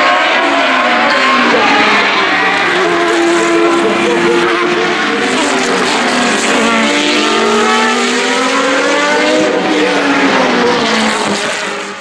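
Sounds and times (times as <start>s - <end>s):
racing car engines screaming: 0.0s - 12.0s.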